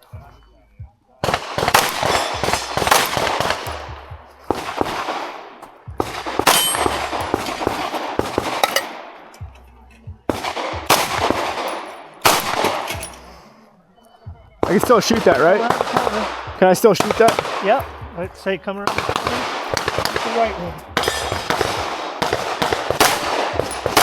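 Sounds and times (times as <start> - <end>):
pistol shots with echo: 1.2 - 9.5, 10.2 - 13.3, 14.6 - 18.1, 18.8 - 24.0.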